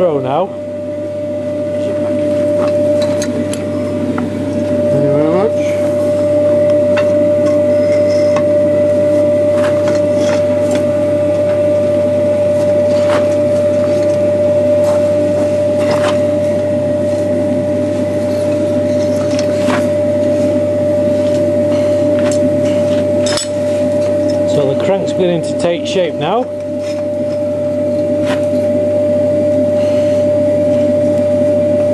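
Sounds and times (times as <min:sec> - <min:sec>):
air blower humming: 0:00.0 - 0:31.9.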